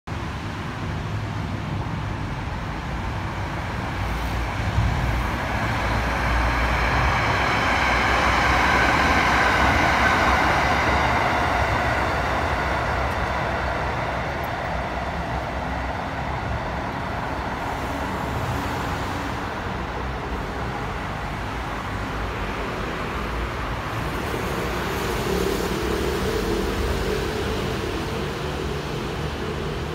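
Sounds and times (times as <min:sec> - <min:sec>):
road traffic rumble: 0:00.1 - 0:29.9
electric train passing: 0:00.3 - 0:29.9.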